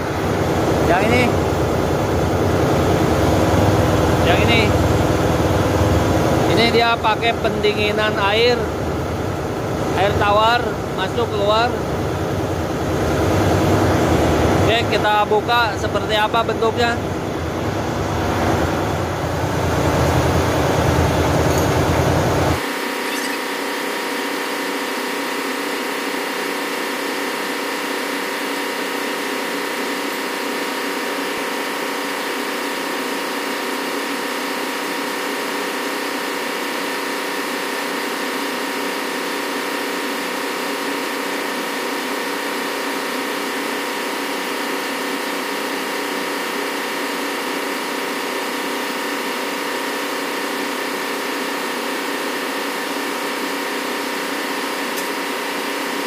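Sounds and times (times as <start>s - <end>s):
engine room machinery drone: 0.0s - 56.0s.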